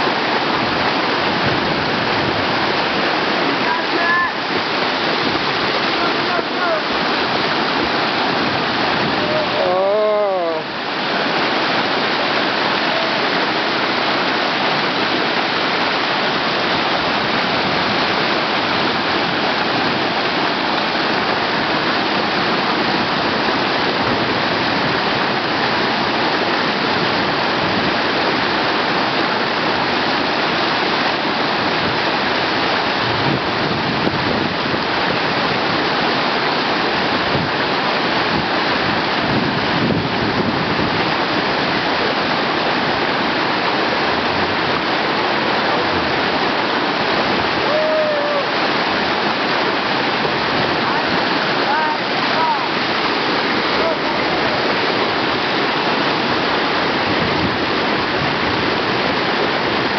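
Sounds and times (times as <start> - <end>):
whitewater rushing: 0.0 - 59.9.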